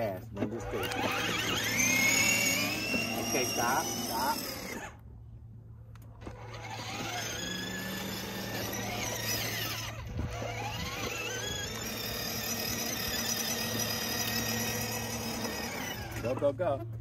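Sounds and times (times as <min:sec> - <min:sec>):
toy car electric motor whining: 0:00.0 - 0:05.0, 0:06.2 - 0:16.8.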